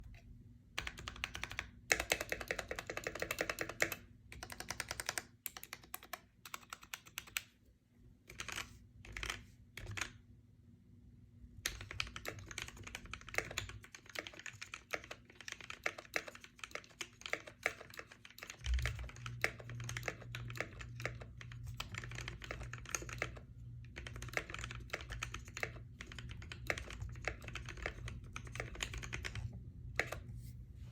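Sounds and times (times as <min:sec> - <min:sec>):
mechanical keyboard typing: 0:00.8 - 0:07.5, 0:08.3 - 0:10.2, 0:11.6 - 0:30.3.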